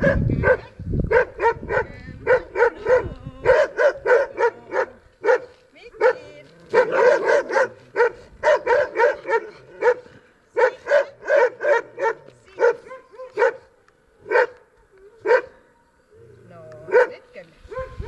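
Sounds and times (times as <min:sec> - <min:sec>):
dog barking: 0:00.0 - 0:13.7, 0:14.3 - 0:14.6, 0:15.2 - 0:15.6, 0:16.9 - 0:18.0.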